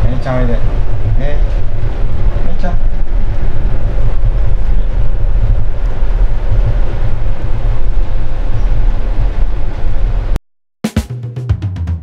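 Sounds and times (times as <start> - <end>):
low rumbling buffeting microphone: 0.0 - 10.4.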